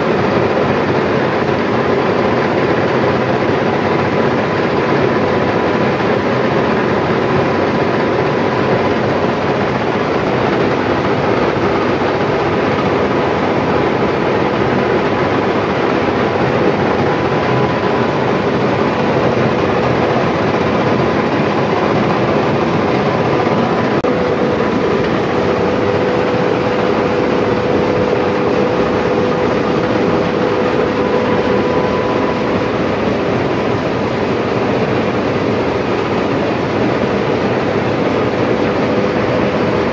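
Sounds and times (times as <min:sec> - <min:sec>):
mill machinery din: 0:00.0 - 0:39.9
faint mechanical whine: 0:02.2 - 0:39.9.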